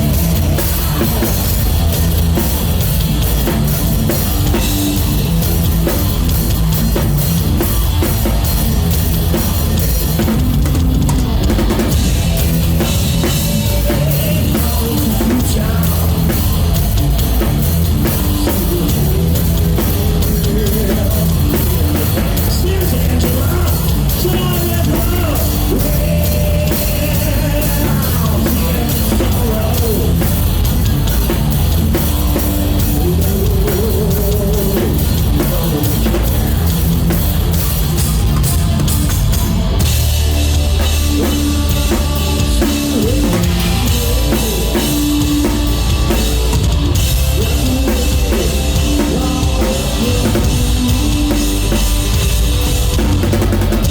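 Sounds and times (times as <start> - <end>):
drum kit: 0.0 - 53.9
live rock band: 0.0 - 53.9.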